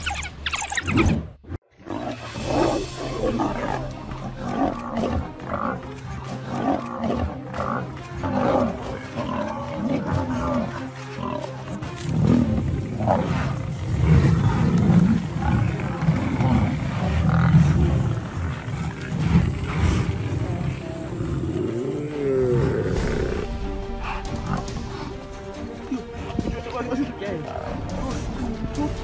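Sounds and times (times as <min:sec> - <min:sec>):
lion growling and roaring: 0:00.7 - 0:26.4, 0:27.3 - 0:29.0
background music: 0:01.7 - 0:29.0.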